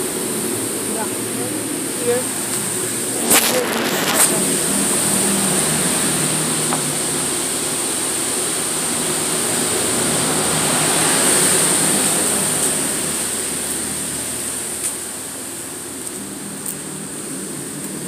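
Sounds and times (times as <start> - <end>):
high-pressure water jets hissing: 0.0 - 18.0.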